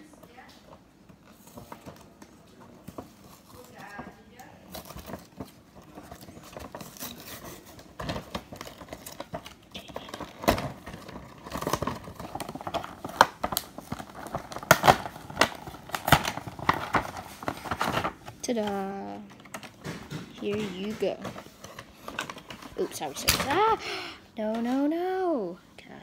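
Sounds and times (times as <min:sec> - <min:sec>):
packaging crinkling and crackling: 0:00.3 - 0:24.9.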